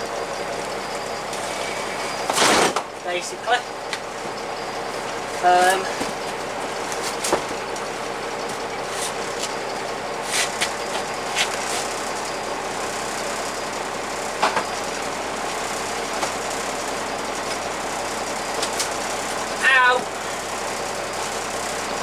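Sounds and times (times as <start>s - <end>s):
bus diesel engine idling: 0.0s - 22.0s.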